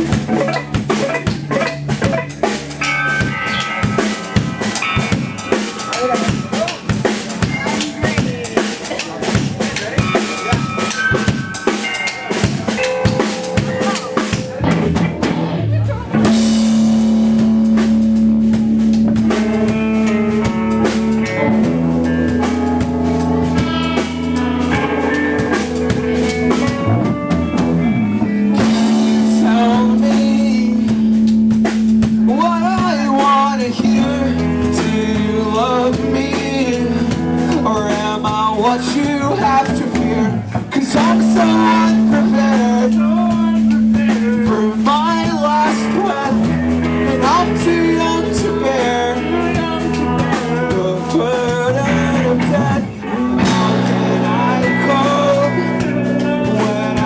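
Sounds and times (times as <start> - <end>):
drums: 0.0 - 57.0
live rock band playing: 0.0 - 57.0.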